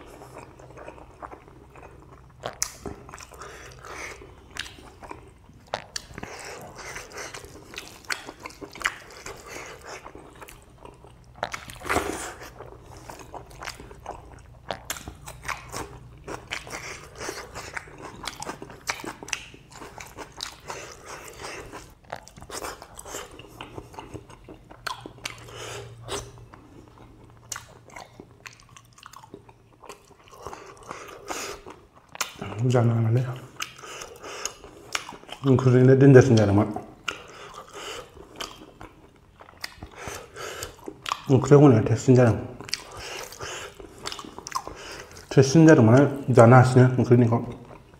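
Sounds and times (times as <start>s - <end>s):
person chewing with mouth open: 0.0s - 46.3s, 47.4s - 47.9s.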